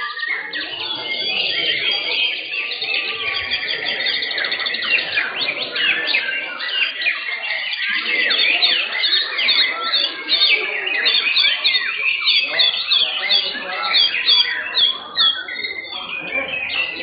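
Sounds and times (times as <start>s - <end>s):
birds singing chirps and whistles: 0.0s - 17.0s.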